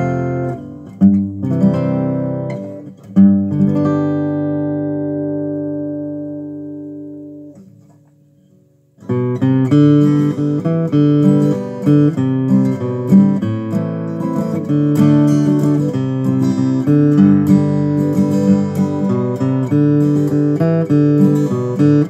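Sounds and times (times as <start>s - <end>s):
acoustic guitar chord ringing: 0.0s - 22.0s
fingerpicked acoustic guitar: 0.0s - 22.0s.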